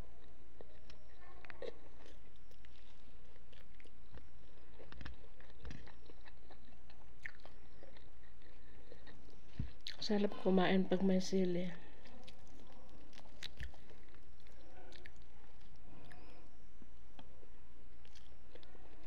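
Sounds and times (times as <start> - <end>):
chewing and crunching food: 0.0 - 19.0
steady low hum: 0.0 - 19.0.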